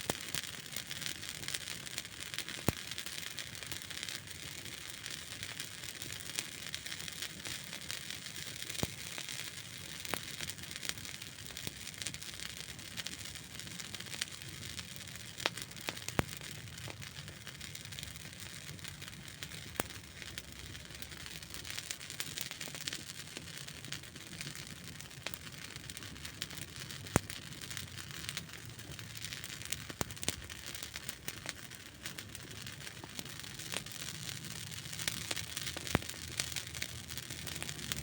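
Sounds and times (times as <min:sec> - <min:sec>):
campfire hissing: 0:00.0 - 0:38.0
wood crackling and popping: 0:00.0 - 0:38.0.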